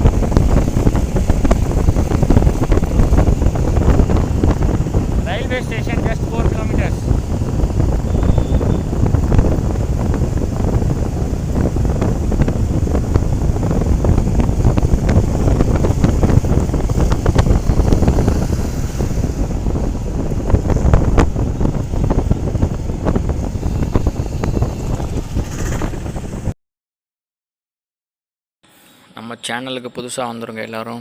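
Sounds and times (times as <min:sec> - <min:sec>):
road rumble: 0:00.0 - 0:26.5
wind buffeting microphone: 0:00.0 - 0:26.6.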